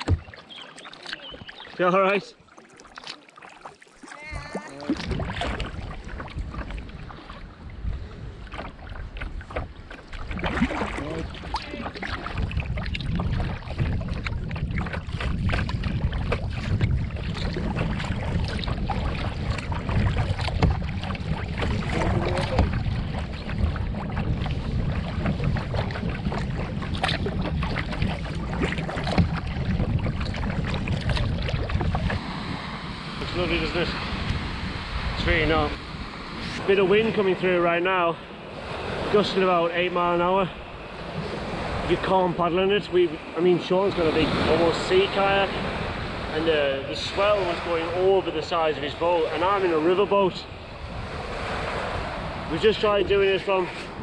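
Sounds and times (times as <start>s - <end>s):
water splashing and sloshing: 0.0s - 54.0s
wind rumbling on microphone: 4.2s - 54.0s.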